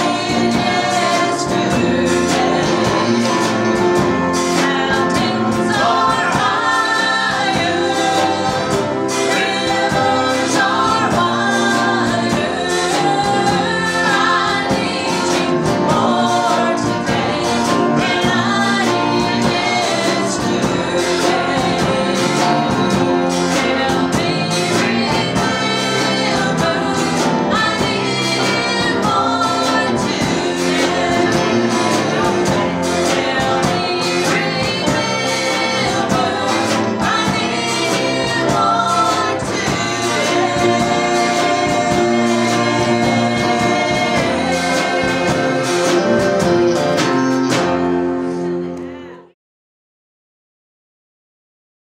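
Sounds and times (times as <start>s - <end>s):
voices singing gospel together: 0.0s - 49.2s
band backing: 0.0s - 49.4s.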